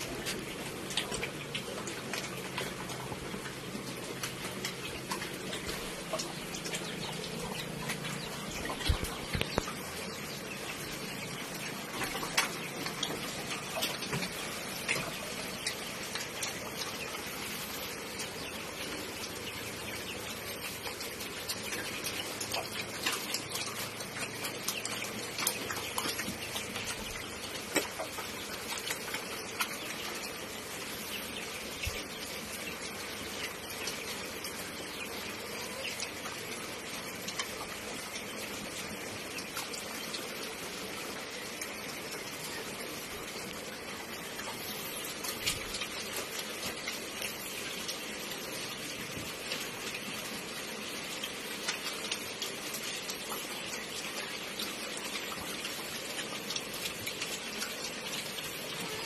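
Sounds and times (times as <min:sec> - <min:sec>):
pigs moving in concrete pen: 0:00.0 - 0:59.0.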